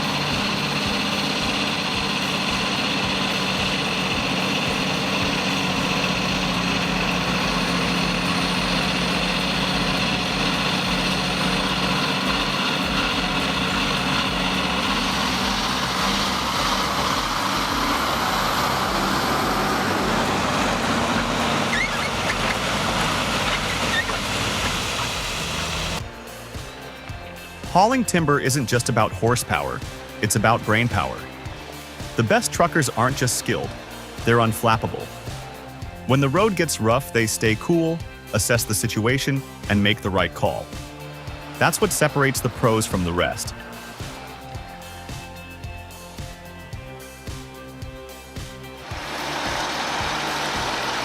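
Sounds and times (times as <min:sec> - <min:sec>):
vehicle engine running under load: 0:00.0 - 0:51.0.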